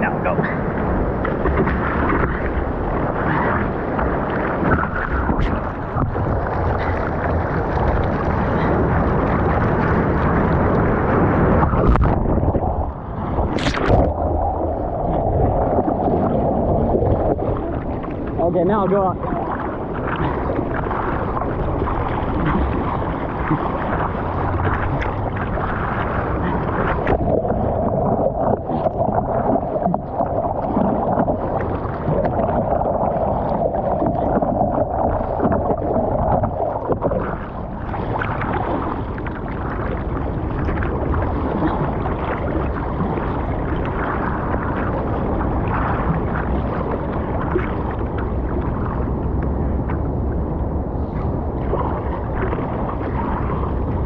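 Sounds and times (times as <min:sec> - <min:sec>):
sea water rushing and sloshing: 0:00.0 - 0:54.0.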